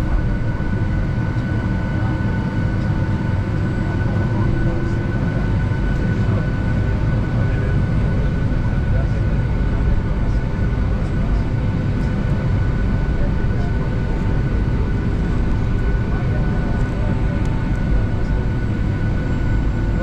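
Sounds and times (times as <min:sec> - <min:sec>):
jet engine whine: 0:00.0 - 0:20.0
low cabin rumble: 0:00.0 - 0:20.0.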